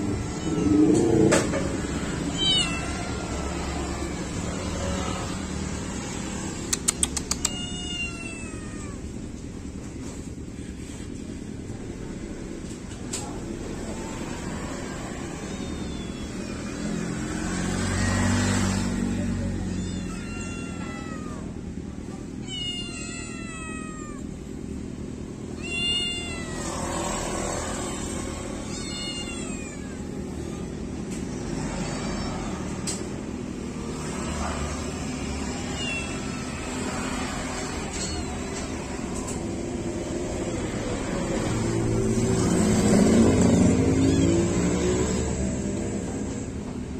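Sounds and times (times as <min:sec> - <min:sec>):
kittens meowing: 0:00.0 - 0:09.4, 0:13.4 - 0:24.4, 0:25.4 - 0:42.1, 0:43.0 - 0:45.4.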